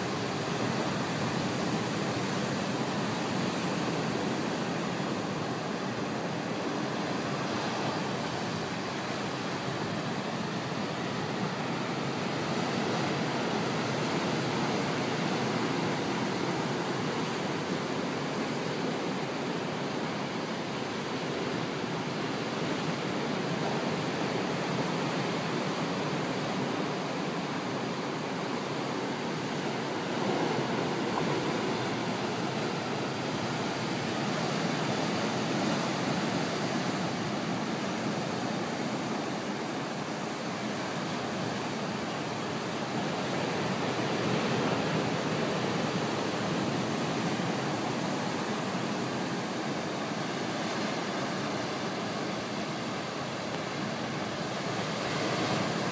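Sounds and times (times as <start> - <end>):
heavy surf roaring: 0.0 - 55.9.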